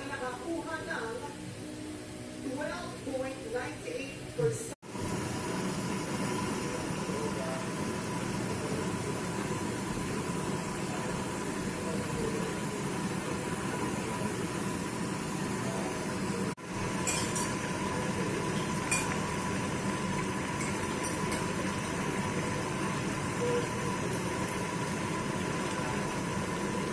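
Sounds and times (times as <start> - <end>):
pan simmering hiss: 4.8 - 26.9.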